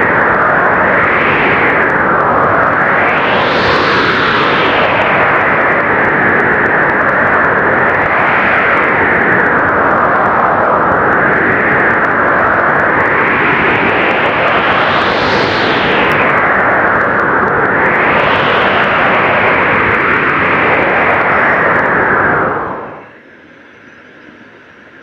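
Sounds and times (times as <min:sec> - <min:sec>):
blizzard wind blowing hard: 0:00.0 - 0:25.0.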